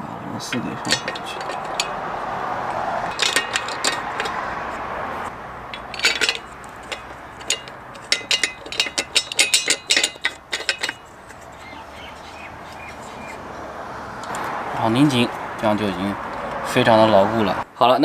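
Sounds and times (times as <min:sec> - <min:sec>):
metal bolts clinking: 0:00.4 - 0:17.6.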